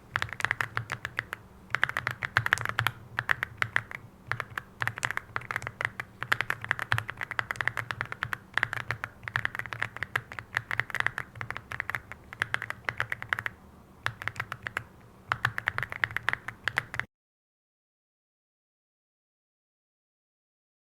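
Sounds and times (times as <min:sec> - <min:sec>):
mechanical keyboard typing: 0:00.1 - 0:17.1.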